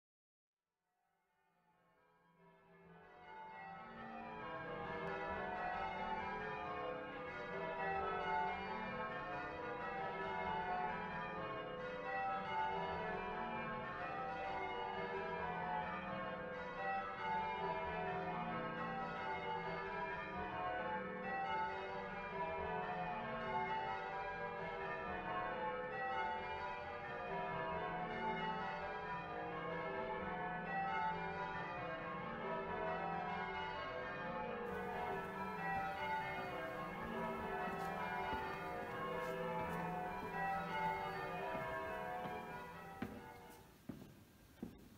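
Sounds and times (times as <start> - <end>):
church bells ringing: 3.2 - 44.1.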